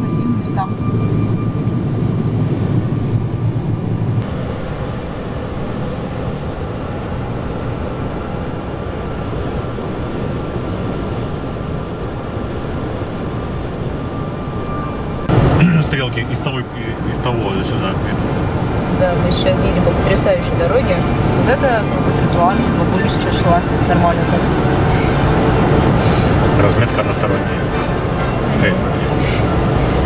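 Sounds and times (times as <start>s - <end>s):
engine and road noise in car: 1.6s - 30.0s.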